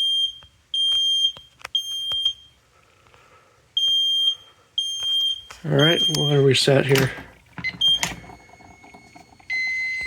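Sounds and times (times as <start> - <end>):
smoke detector beeping: 0.0 - 2.6, 3.7 - 10.0.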